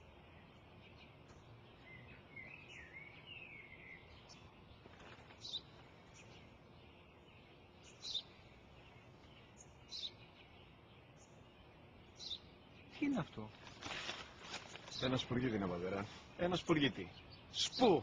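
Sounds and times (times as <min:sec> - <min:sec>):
birds chirping faintly: 0:00.0 - 0:18.0.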